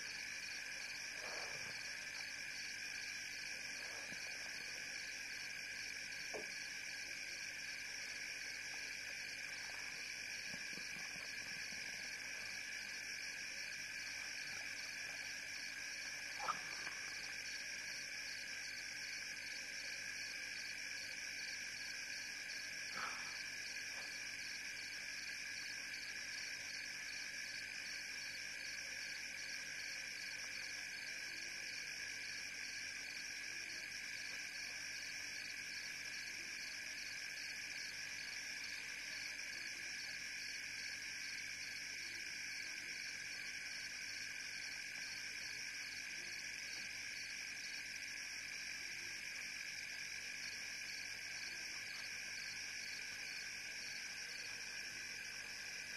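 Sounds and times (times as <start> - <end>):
frogs and insects trilling: 0.0 - 55.9.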